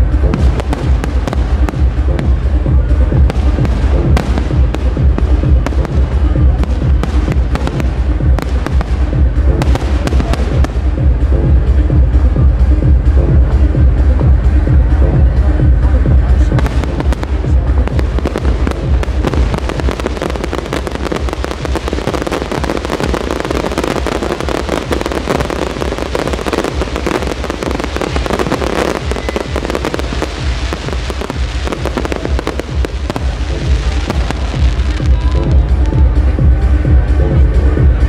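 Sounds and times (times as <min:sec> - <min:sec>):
fireworks bursting and crackling: 0:00.0 - 0:12.1, 0:16.4 - 0:36.0
loud music with heavy bass: 0:00.0 - 0:38.0.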